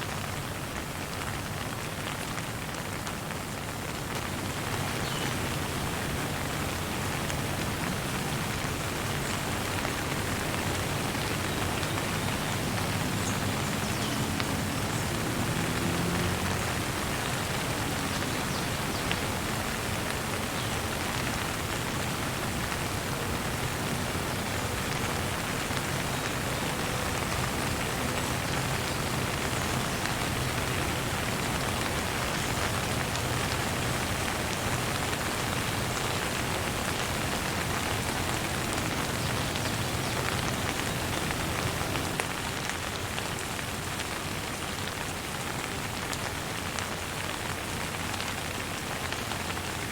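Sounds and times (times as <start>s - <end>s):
rain falling on surfaces: 0.0s - 49.9s.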